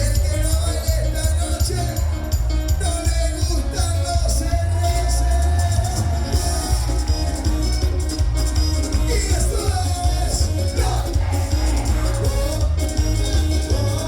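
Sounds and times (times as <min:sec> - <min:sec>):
live band playing latin dance music: 0:00.0 - 0:14.0.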